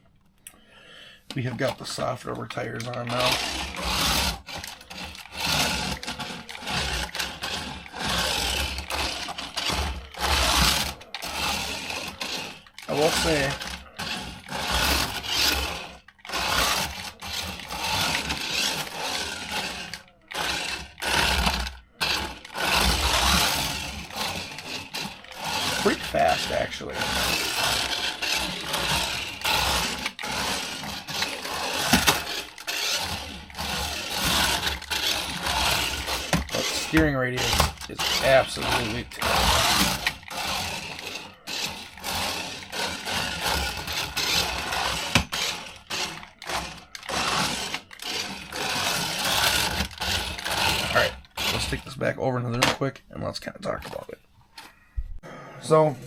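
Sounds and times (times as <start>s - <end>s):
small electric motor running: 1.5s - 52.0s.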